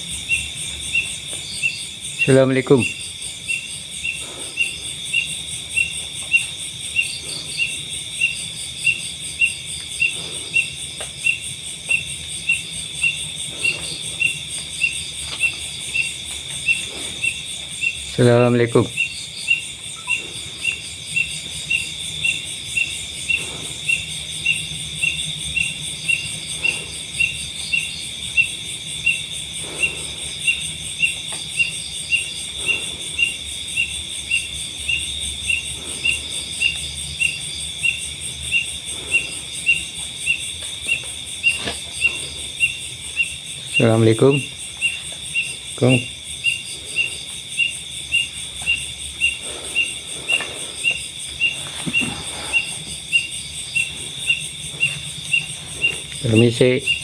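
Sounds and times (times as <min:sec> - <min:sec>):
insect chirping: 0:00.0 - 0:57.0
insects trilling: 0:00.0 - 0:57.0.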